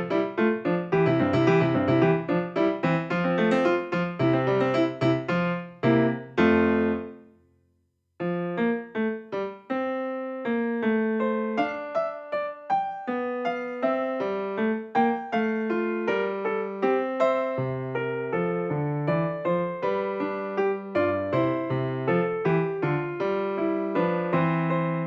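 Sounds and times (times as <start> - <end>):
piano music: 0.0 - 7.4, 8.2 - 25.0.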